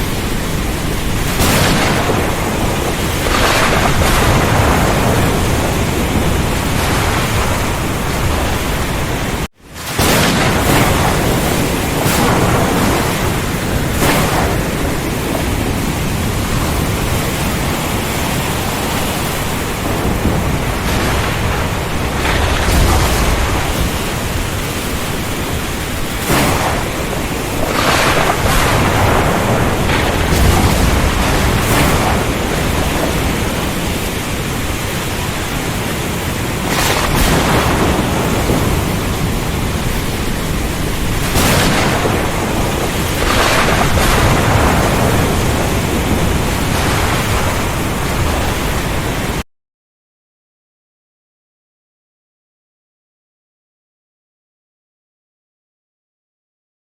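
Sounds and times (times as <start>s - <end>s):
heavy rain hissing: 0.0s - 49.4s
thunder rumbling: 0.0s - 49.4s.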